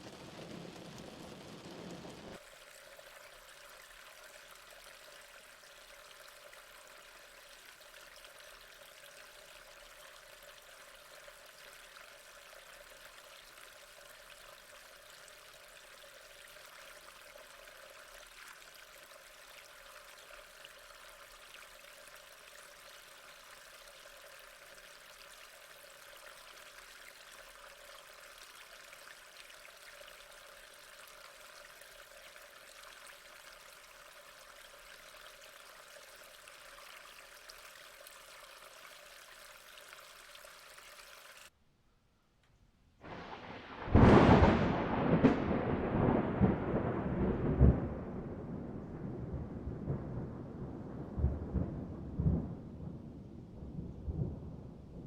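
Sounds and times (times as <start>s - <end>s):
faint steady rain: 0.0s - 41.6s, 43.0s - 55.0s.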